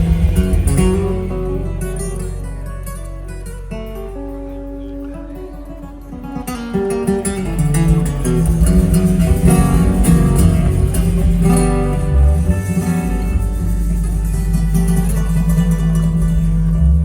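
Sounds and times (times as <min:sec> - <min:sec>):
live band music: 0:00.0 - 0:17.0
picked acoustic guitar: 0:00.0 - 0:17.0.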